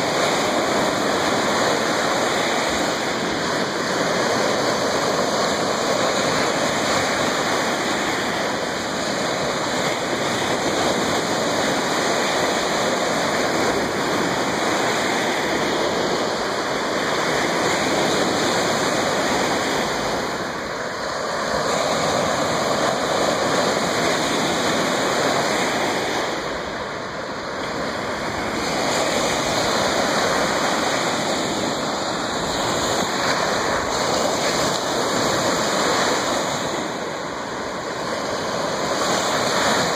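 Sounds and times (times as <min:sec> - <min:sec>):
surf washing onto shore: 0:00.0 - 0:39.9.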